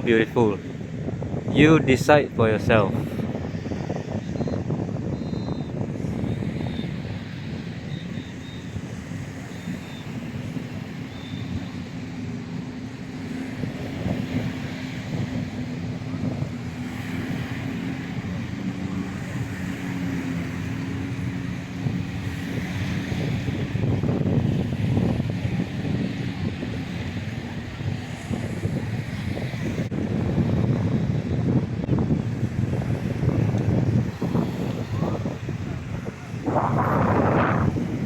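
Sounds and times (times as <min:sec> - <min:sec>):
motor droning: 0:03.2 - 0:38.0.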